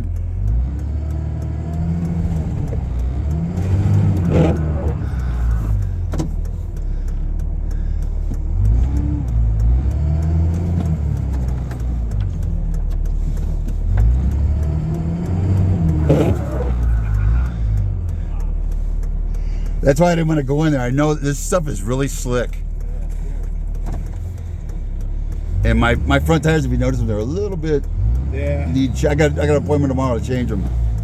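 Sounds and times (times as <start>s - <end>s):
pickup truck engine revving: 0.0s - 31.0s.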